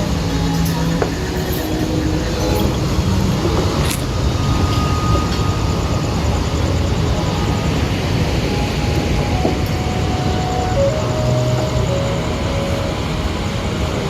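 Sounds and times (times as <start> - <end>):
vehicle rumble and hiss: 0.0 - 14.0.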